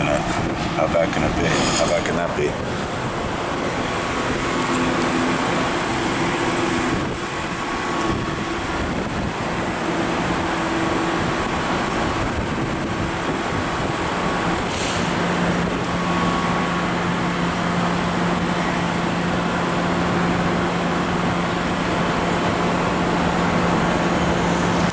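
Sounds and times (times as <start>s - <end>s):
city street traffic: 0.0s - 24.9s
vehicle engine humming: 0.0s - 24.9s.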